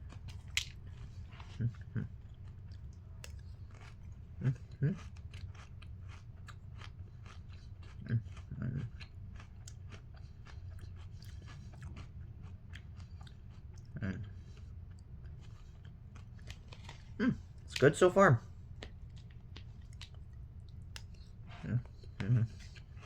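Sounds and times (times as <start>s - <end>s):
person chewing crunchy cereal: 0.0s - 17.9s, 18.7s - 23.0s.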